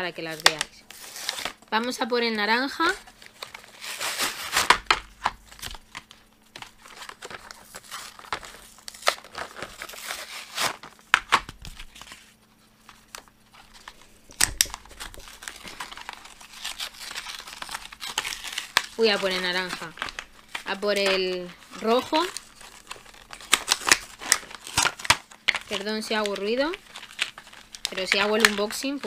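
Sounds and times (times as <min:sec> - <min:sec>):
paper packaging crinkling: 0:00.0 - 0:01.7, 0:02.6 - 0:29.0
cardboard tearing: 0:00.3 - 0:01.7, 0:02.9 - 0:12.3, 0:12.9 - 0:29.0.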